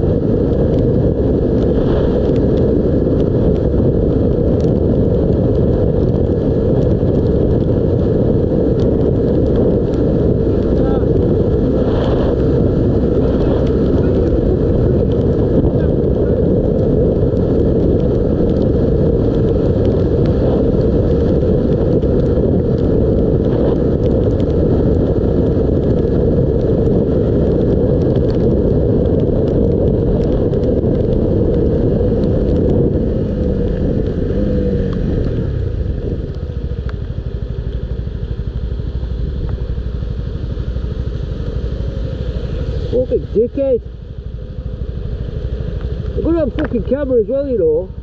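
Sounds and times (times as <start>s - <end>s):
motorcycle engine: 0.0s - 48.0s
road noise: 0.0s - 48.0s
wind noise: 0.0s - 48.0s.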